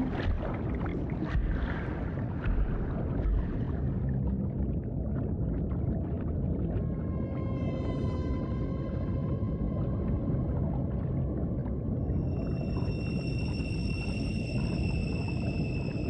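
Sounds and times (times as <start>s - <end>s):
low rumble of water and hull: 0.0s - 16.0s.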